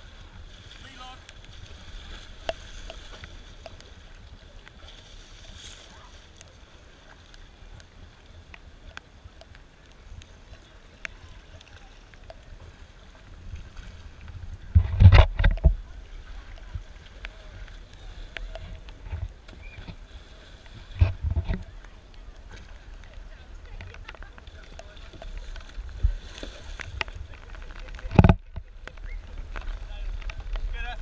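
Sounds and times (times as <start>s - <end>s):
small waves lapping: 0.0s - 31.0s
water drips and ticks: 0.1s - 31.0s.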